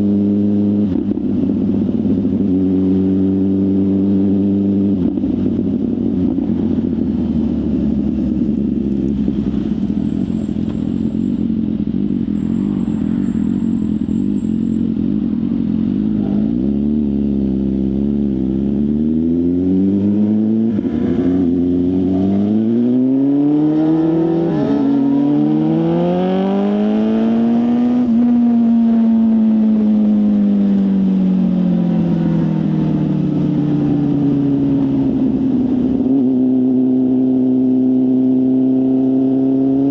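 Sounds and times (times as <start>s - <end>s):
sport motorcycle engine revving: 0.0s - 39.9s.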